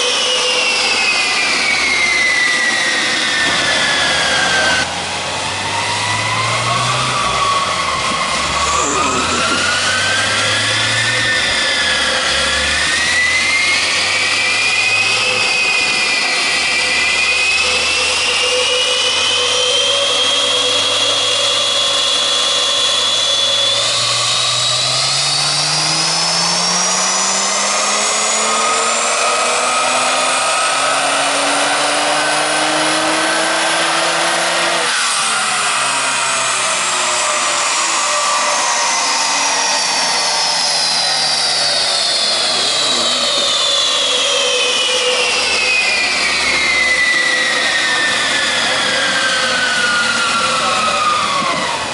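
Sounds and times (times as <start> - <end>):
car engine full-throttle pull: 0.0 - 51.9
dyno rollers whining: 0.0 - 51.9.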